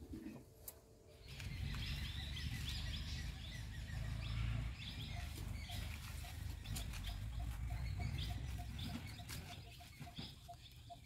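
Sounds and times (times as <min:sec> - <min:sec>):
small birds chirping: 0:01.1 - 0:11.0.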